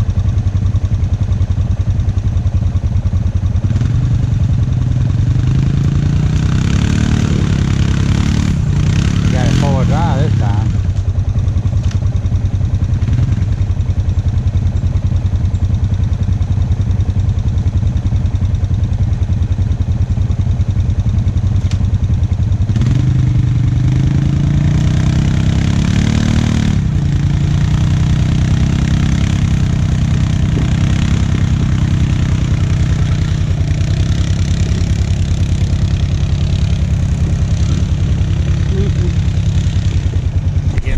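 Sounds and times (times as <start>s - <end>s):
atv engine idling and revving: 0.0s - 40.9s.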